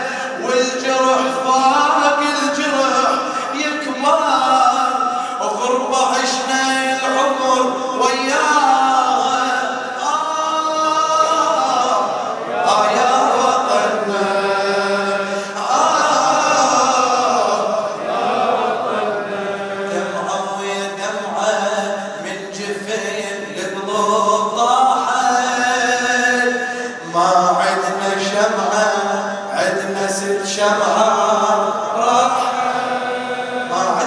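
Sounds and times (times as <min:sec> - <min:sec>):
man chanting over loudspeakers: 0:00.0 - 0:34.0.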